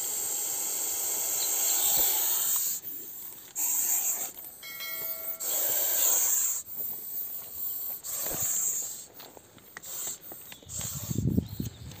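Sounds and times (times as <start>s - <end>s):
snake hissing: 0.0s - 4.6s, 5.3s - 9.1s, 9.8s - 11.4s.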